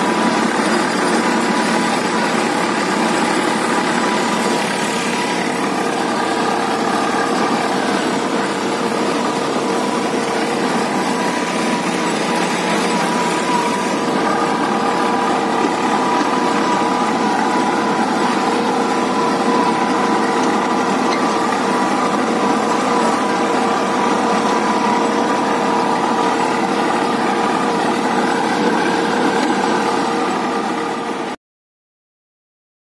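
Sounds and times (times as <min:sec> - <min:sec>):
tractor diesel engine under load: 0:00.0 - 0:31.4.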